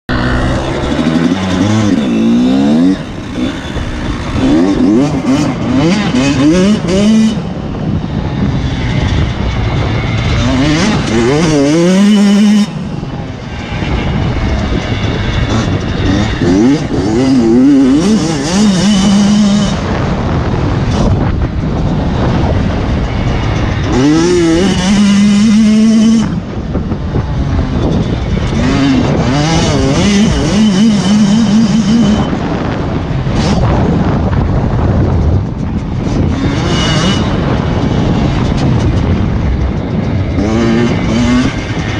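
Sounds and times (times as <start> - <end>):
motocross bike engines revving: 0.1 - 41.9.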